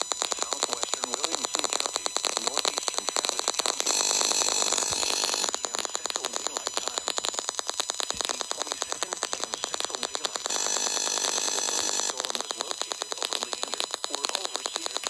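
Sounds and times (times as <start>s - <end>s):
radio static crackling: 0.0s - 15.0s
steady hiss: 0.0s - 15.0s.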